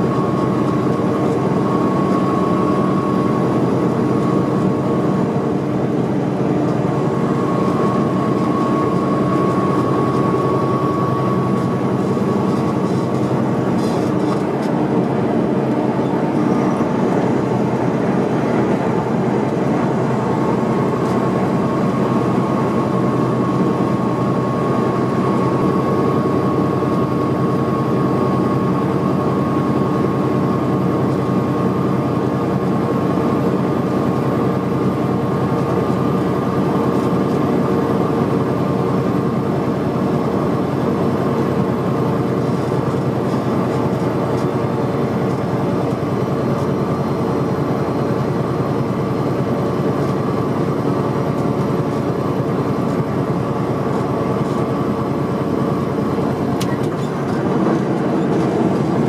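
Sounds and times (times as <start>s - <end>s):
truck diesel engine droning: 0.0s - 59.0s.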